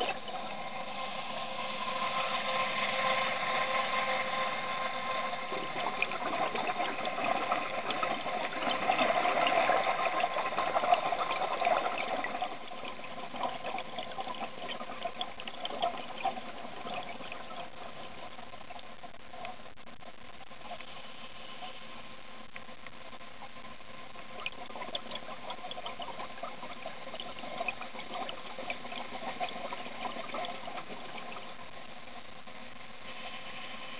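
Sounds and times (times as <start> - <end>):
regulator bubbles gurgling: 0.0 - 33.9
steady hum with whining tones: 0.0 - 33.9.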